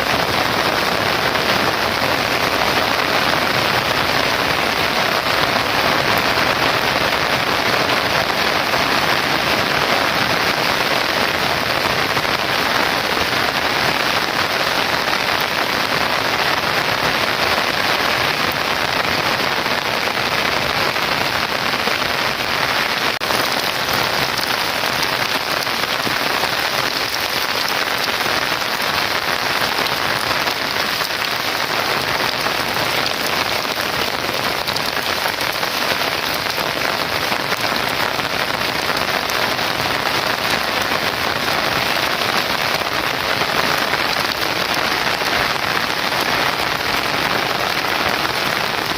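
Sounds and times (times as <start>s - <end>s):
heavy rain hissing: 0.0s - 48.9s.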